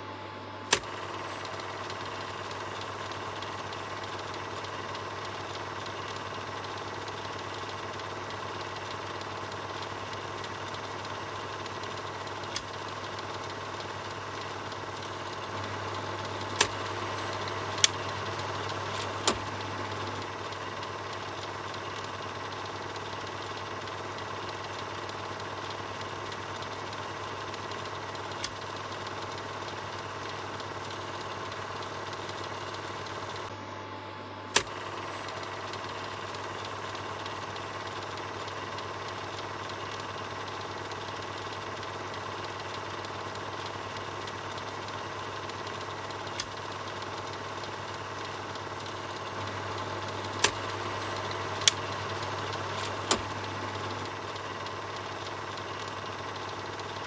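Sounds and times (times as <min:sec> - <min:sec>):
film projector running: 0:00.0 - 0:57.0
sharp clicks: 0:00.7 - 0:33.5, 0:34.5 - 0:57.0.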